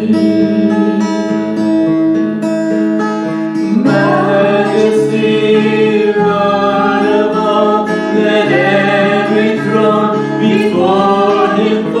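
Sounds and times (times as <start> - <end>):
person singing: 0.0 - 1.8, 3.7 - 12.0
strummed acoustic guitar: 0.0 - 12.0.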